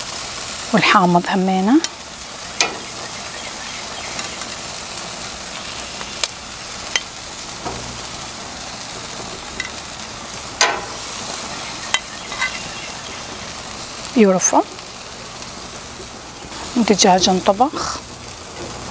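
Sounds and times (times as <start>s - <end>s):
meat sizzling on grill: 0.0s - 18.9s.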